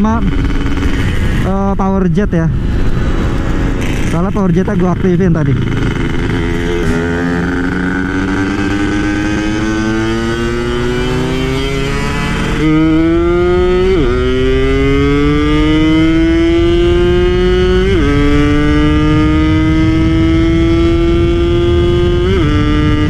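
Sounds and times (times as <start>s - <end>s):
two-stroke engine running hard: 3.2s - 23.0s.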